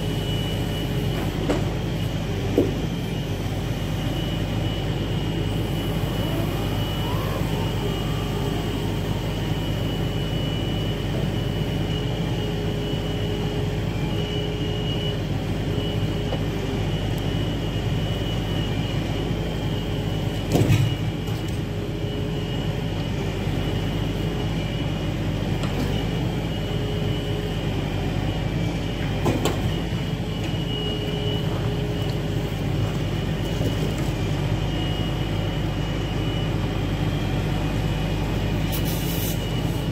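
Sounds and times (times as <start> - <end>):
diesel engine running: 0.0 - 39.9
hydraulic whine: 0.0 - 39.9.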